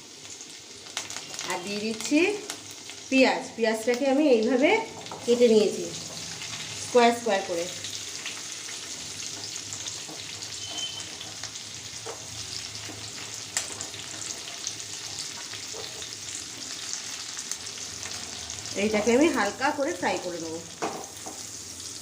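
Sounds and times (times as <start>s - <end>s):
vegetables sizzling in hot oil: 0.0s - 22.0s.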